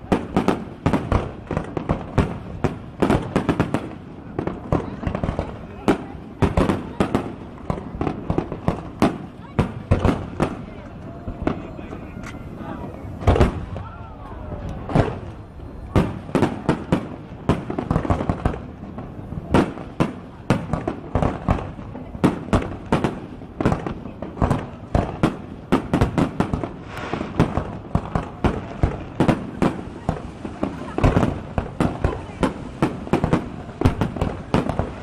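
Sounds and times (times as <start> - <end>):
fireworks bangs: 0.0 - 35.0
fireworks crackles: 0.0 - 35.0.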